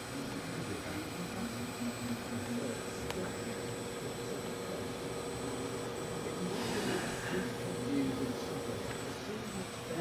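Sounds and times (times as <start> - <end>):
desktop computer humming: 0.0 - 10.0.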